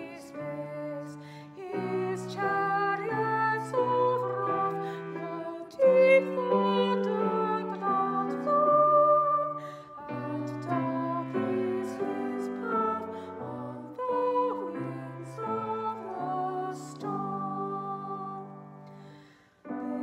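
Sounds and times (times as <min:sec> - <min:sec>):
women singing a hymn: 0:00.0 - 0:20.0.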